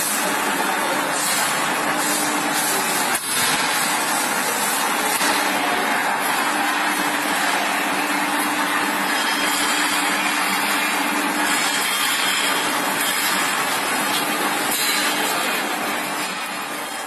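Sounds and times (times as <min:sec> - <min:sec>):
machine hum with hiss: 0:00.0 - 0:17.0.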